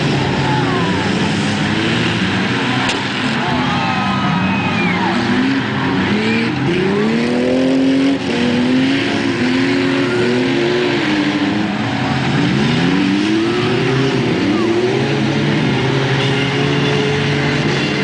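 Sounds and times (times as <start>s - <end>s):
car engines racing: 0.0s - 18.0s.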